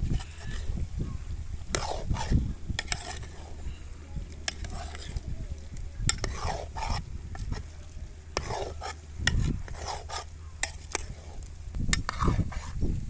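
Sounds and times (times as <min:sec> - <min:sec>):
spoon scraping metal pot: 0:00.0 - 0:00.8, 0:01.6 - 0:12.9.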